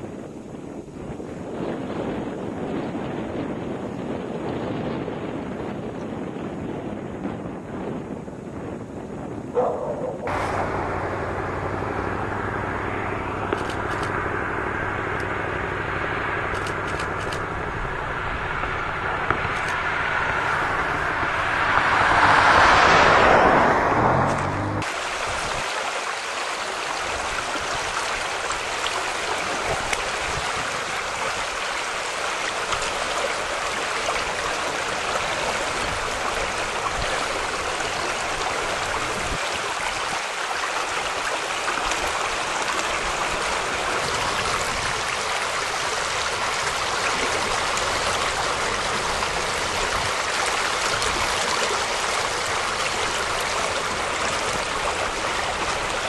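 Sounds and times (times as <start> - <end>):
floodwater rushing: 9.6 - 56.0.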